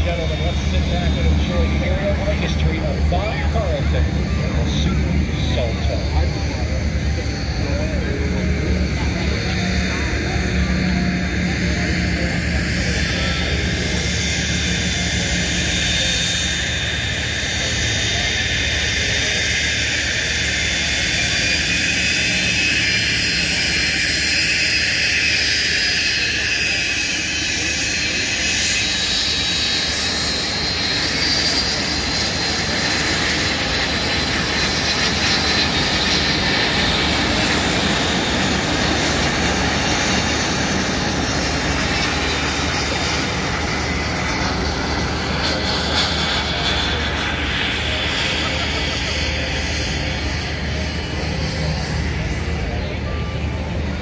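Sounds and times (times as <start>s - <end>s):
jet engine whine overhead: 0.0s - 54.0s.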